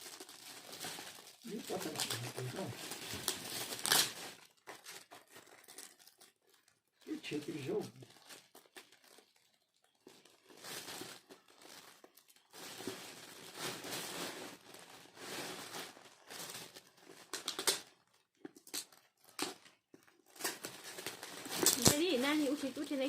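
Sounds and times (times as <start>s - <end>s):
wrapping paper crinkling: 0.0s - 23.0s.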